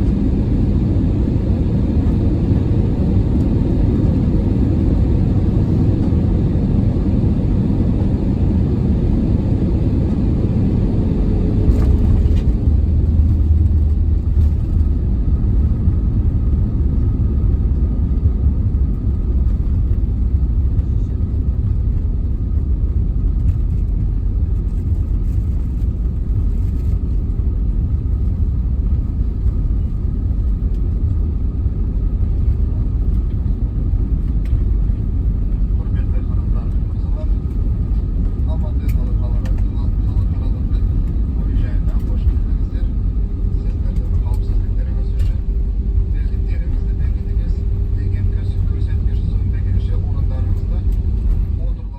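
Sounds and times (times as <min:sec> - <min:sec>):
airliner cabin low rumble: 0:00.0 - 0:51.9.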